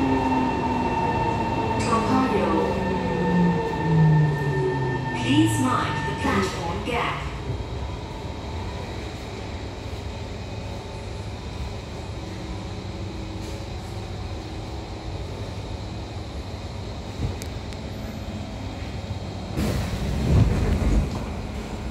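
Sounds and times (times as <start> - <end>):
metro carriage hum: 0.0 - 21.9.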